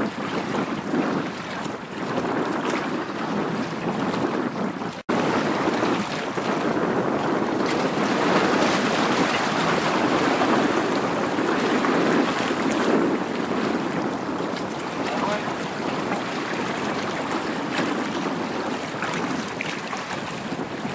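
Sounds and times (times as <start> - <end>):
wind rushing over microphone: 0.0 - 20.9.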